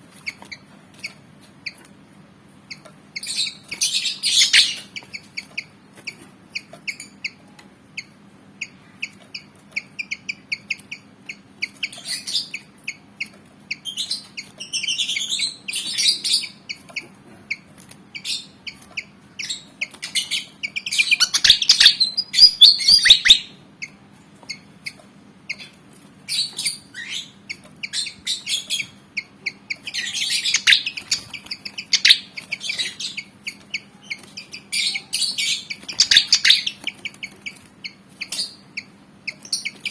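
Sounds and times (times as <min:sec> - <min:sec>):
bird chirping song: 0:02.7 - 0:39.9.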